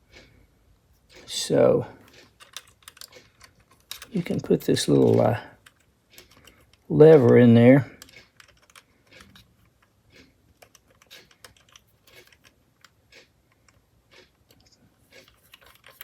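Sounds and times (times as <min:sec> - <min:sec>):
small metal clicks and taps: 0:02.0 - 0:16.0.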